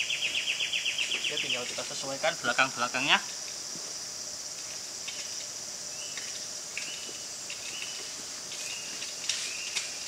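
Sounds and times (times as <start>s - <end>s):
insect chorus: 0.0s - 10.0s.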